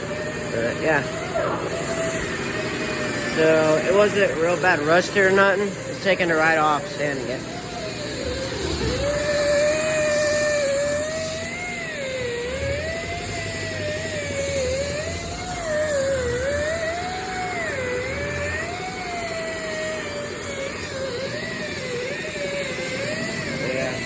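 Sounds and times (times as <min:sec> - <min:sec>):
power sander on metal: 0:00.0 - 0:24.0.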